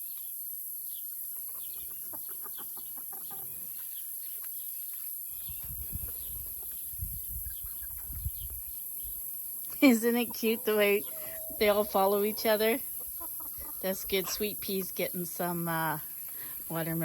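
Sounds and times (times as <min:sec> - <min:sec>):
chickens clucking: 0:01.4 - 0:04.5, 0:05.5 - 0:17.0.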